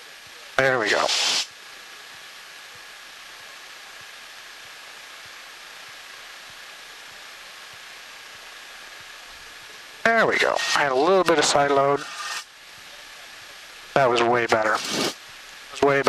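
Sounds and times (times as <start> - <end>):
cockpit noise hiss: 0.0 - 16.0.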